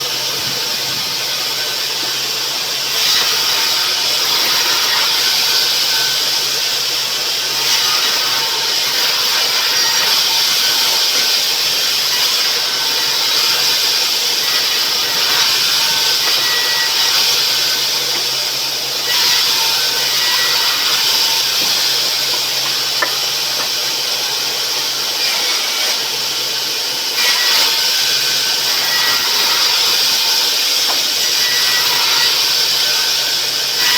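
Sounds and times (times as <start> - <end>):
saw cutting wood: 0.0 - 33.9.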